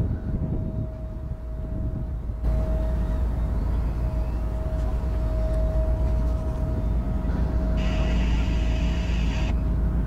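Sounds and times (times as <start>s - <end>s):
locomotive rumbling and droning: 0.0s - 10.0s.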